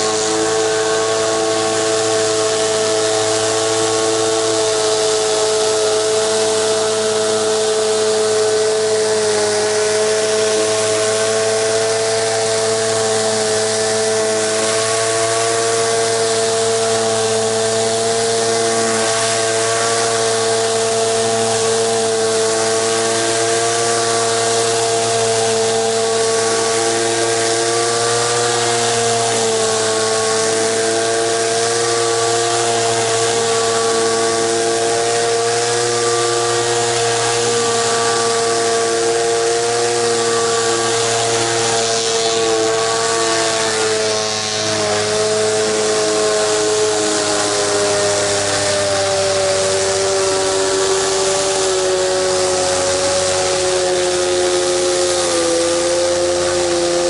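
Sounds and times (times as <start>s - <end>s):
pressure washer hum: 0.0s - 57.0s
water spraying hiss: 0.0s - 57.0s.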